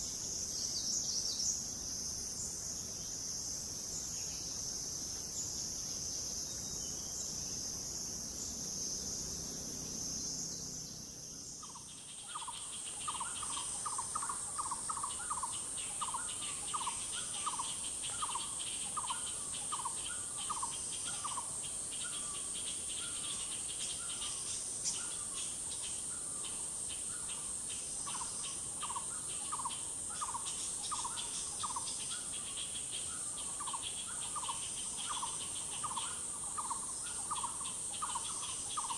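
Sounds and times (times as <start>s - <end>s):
fast pulsing insect rattle: 0.0s - 38.9s
insects droning: 0.0s - 38.9s.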